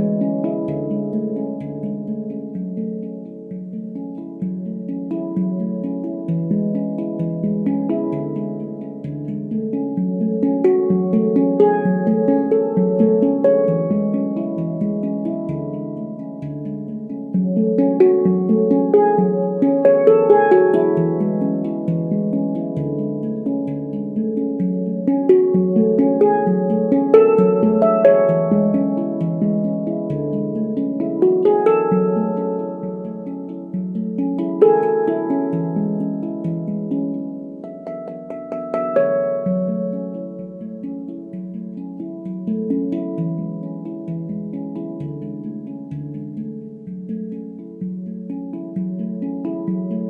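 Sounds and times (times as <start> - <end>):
handpan played with fingers: 0.0 - 50.0.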